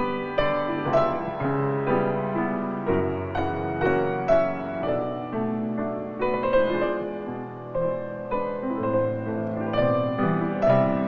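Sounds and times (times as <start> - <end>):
gentle slow piano music: 0.0 - 11.0.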